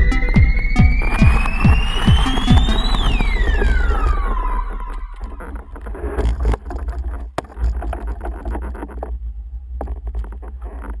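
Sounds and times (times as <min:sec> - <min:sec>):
muffled wind rumble: 0:00.0 - 0:11.0.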